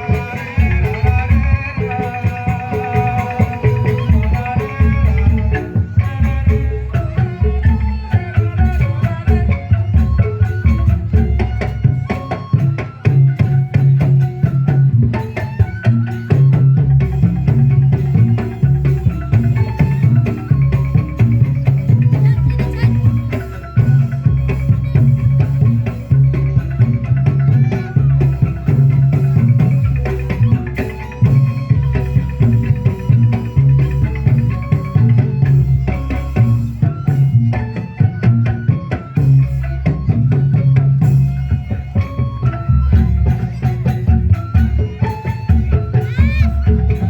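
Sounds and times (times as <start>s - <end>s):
drums: 0.0s - 47.0s
live band playing instrumental music: 0.0s - 47.0s.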